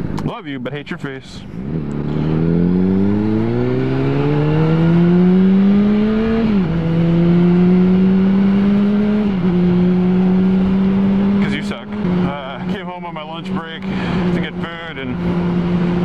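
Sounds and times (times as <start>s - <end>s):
motorcycle engine accelerating: 1.6s - 16.0s.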